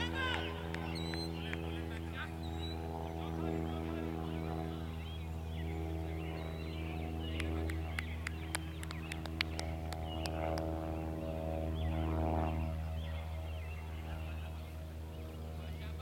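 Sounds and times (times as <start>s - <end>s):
birds chirping: 0.0s - 16.0s
low mechanical hum: 0.0s - 16.0s.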